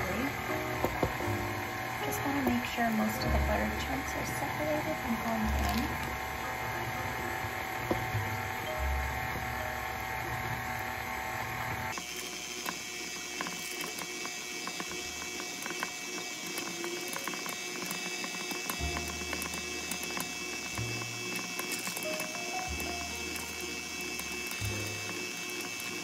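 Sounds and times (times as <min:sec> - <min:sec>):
stand mixer motor whir: 0:00.0 - 0:26.0.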